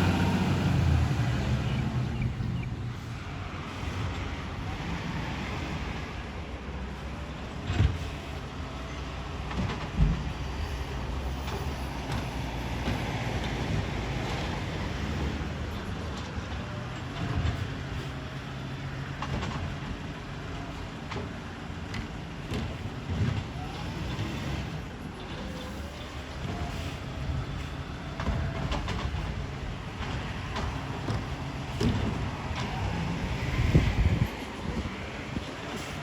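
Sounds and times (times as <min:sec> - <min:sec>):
garbage truck engine running: 0:06.3 - 0:36.0.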